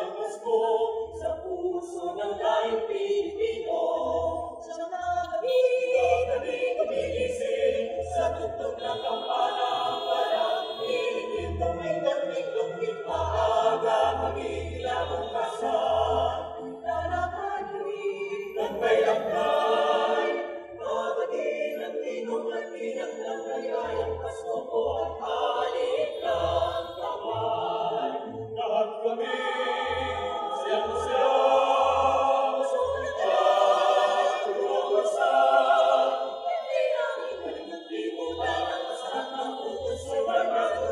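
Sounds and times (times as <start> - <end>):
mixed choir singing unaccompanied: 0.0 - 40.9.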